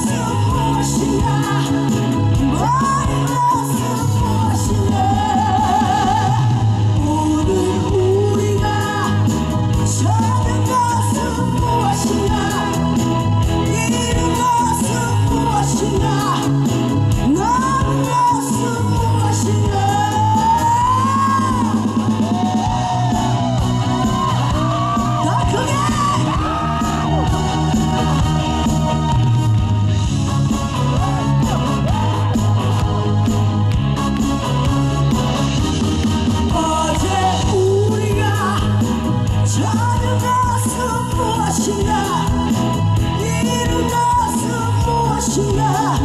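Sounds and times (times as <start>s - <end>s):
person singing: 0.0s - 29.5s, 36.4s - 46.0s
live band music: 0.0s - 46.0s.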